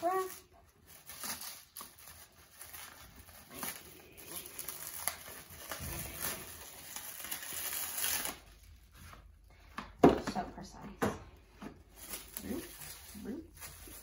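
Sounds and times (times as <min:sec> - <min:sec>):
plastic cling wrap crinkling: 0:00.0 - 0:09.5, 0:11.7 - 0:14.0.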